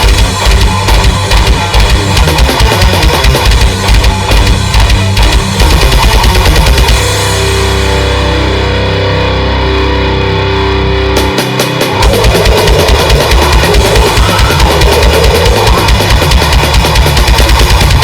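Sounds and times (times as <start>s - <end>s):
rock music with drums and guitar: 0.0s - 18.0s.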